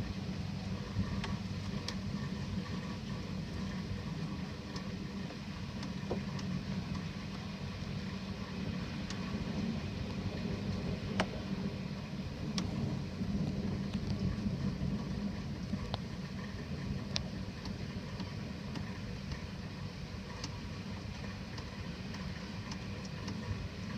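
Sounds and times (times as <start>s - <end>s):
low rumble: 0.0s - 23.9s
rain: 0.0s - 23.9s.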